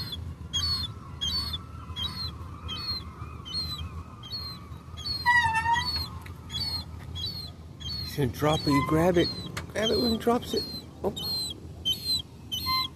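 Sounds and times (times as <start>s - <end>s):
seagulls calling: 0.0s - 12.9s.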